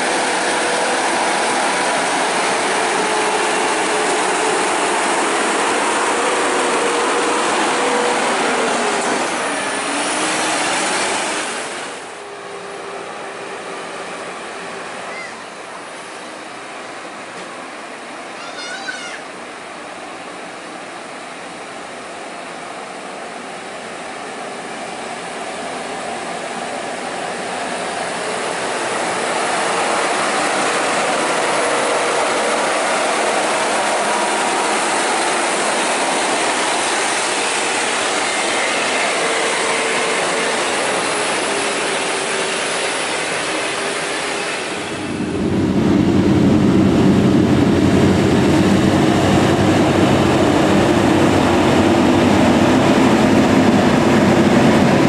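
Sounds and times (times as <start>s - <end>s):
truck diesel engine pulling uphill: 0.0s - 17.3s, 20.5s - 55.0s.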